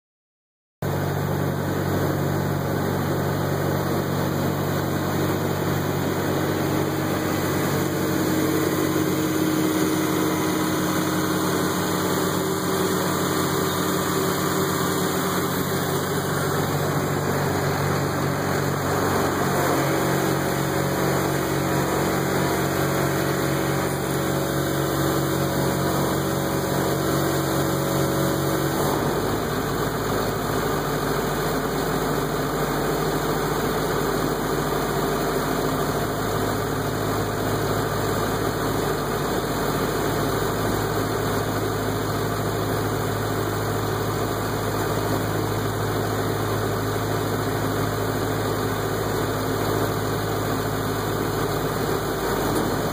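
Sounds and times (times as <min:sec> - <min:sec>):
diesel engines running: 0:00.8 - 0:52.9.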